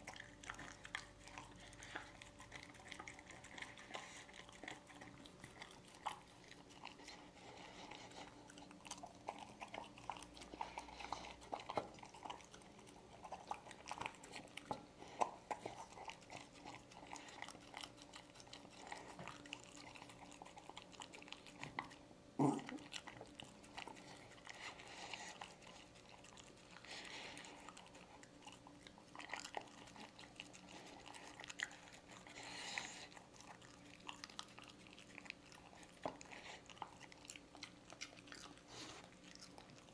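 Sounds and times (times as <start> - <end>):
dog licking and chewing food: 0.0 - 39.9.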